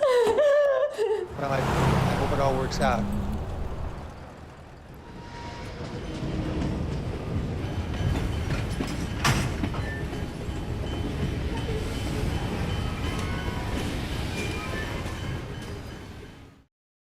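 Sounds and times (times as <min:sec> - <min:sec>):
freight train rumbling on rails: 0:01.2 - 0:16.6.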